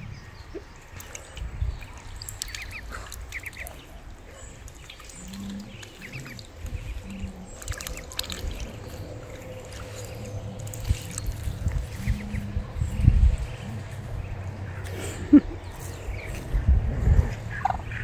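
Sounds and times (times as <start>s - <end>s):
ducklings peeping: 0.4s - 18.0s
ducks calling softly: 0.5s - 16.5s.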